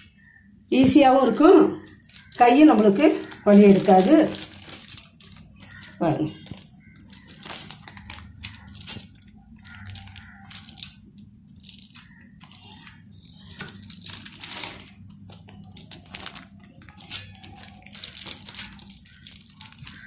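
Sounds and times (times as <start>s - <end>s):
plastic and foil crinkling: 0.2s - 20.0s.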